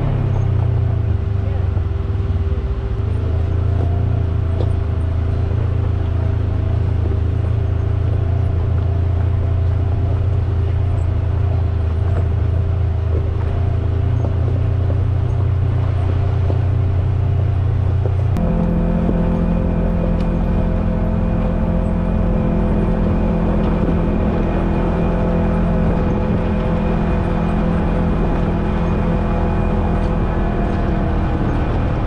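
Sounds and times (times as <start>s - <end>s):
utility vehicle engine droning: 0.0s - 32.0s.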